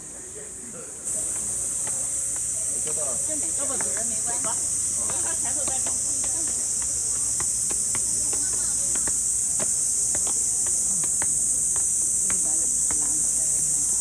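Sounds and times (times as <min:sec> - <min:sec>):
cicadas singing: 0:00.0 - 0:14.0.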